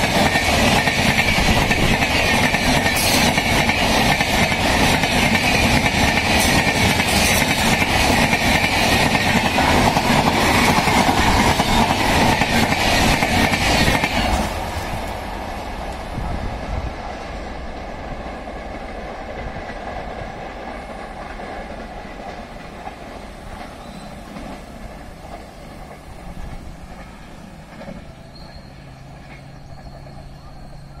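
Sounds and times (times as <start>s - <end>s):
train rumble and wheel clatter: 0.0s - 31.0s.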